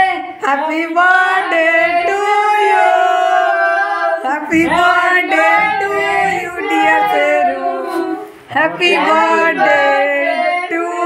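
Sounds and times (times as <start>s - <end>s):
group singing a birthday song: 0.0s - 11.0s.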